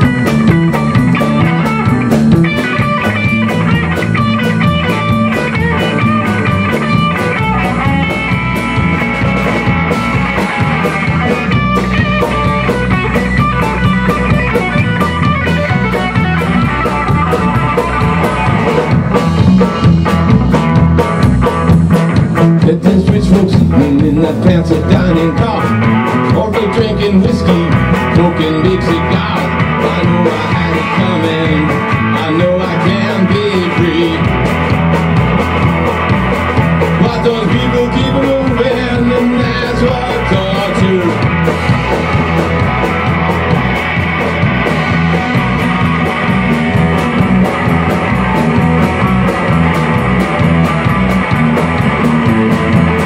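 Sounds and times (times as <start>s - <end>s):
rock band playing live: 0.0s - 53.0s.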